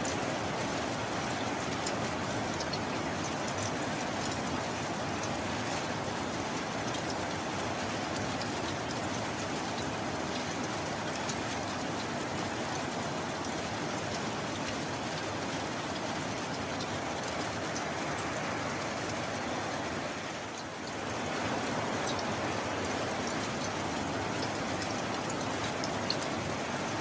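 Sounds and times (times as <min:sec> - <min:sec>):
steady rain: 0:00.0 - 0:27.0
raindrops ticking: 0:00.1 - 0:27.0.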